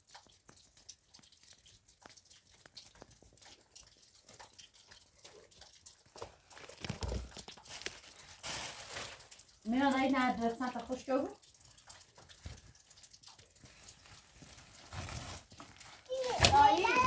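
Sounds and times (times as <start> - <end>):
faint clicks and rustling: 0.0 - 17.0.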